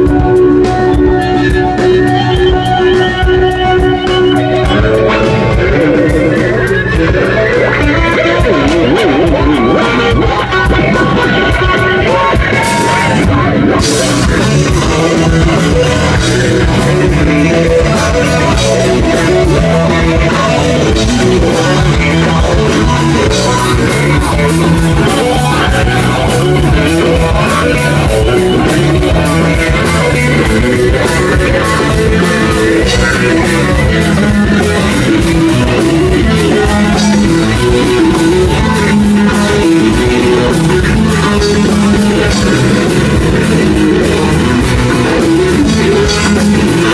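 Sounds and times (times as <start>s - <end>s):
bass guitar: 0.0s - 46.9s
drum kit with cymbals: 0.0s - 46.9s
electric guitar: 0.0s - 46.9s.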